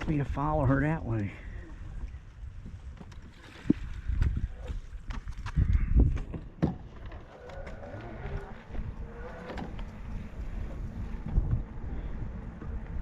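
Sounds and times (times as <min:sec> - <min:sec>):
wind buffeting microphone: 0:01.5 - 0:13.0.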